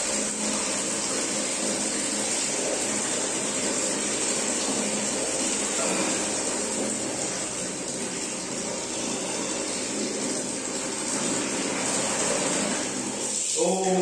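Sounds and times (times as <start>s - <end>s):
water running into bucket: 0.0s - 14.0s.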